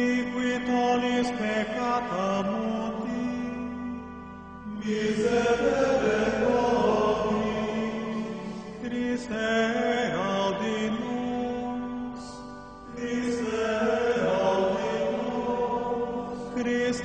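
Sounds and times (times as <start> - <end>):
vocal chant: 0.0 - 4.0, 4.6 - 17.0
low held drone: 0.0 - 17.0.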